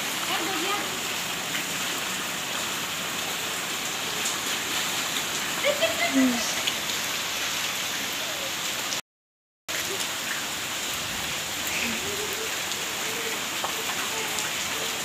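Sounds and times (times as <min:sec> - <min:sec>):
rain falling on wet ground: 0:00.0 - 0:09.0, 0:09.7 - 0:15.0.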